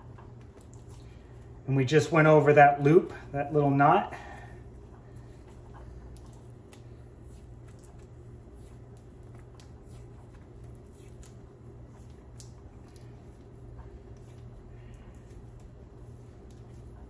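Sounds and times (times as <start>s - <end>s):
tape crackles and clicks: 0.0s - 1.5s, 4.8s - 17.0s
steady low hum: 0.0s - 17.0s.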